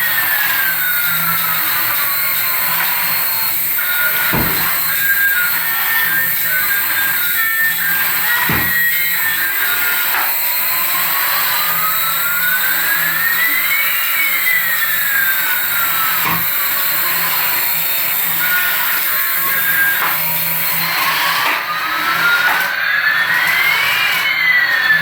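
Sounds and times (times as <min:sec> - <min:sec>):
toy electric motor whirring: 0:00.0 - 0:25.0.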